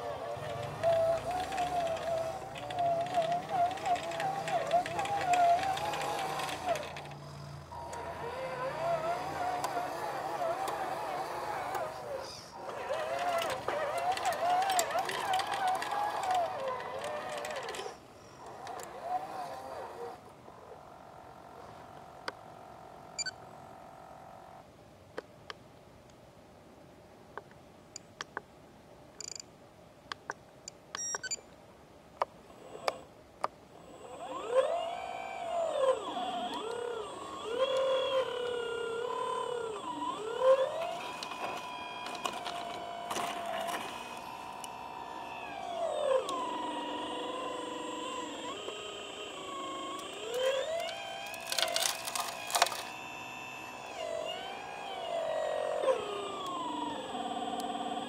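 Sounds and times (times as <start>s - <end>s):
electric motor whine: 0.0s - 24.6s, 33.8s - 58.0s.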